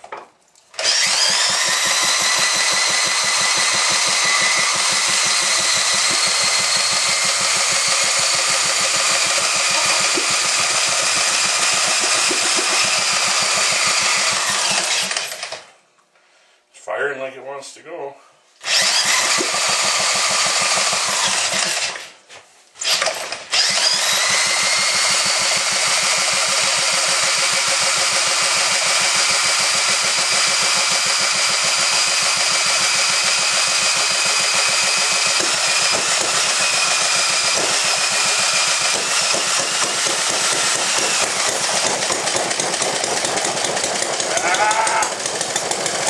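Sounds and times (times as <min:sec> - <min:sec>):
small gas engine running: 0:00.8 - 0:15.8, 0:18.6 - 0:22.2, 0:22.8 - 0:46.0.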